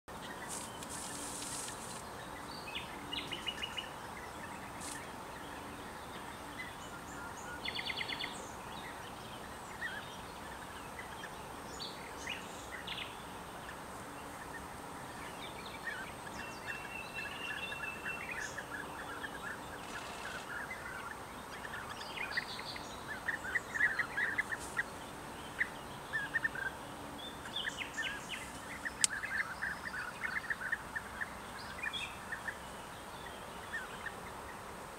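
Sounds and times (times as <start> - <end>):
birds giving rolling calls: 0.1 - 34.9
outdoor hiss: 0.1 - 34.9.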